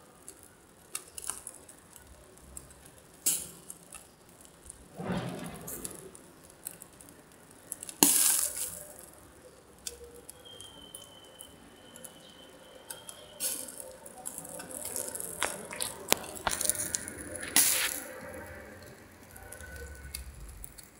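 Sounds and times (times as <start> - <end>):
charcoal fire crackling: 0.0 - 20.9.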